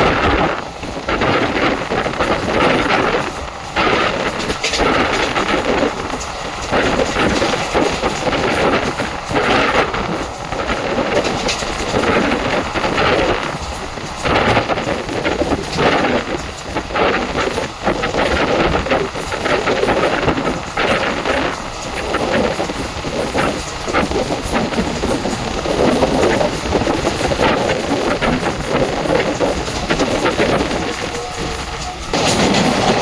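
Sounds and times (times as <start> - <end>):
rushing air: 0.0 - 33.0
train rumble: 0.0 - 33.0
wheels clattering over track: 0.0 - 33.0.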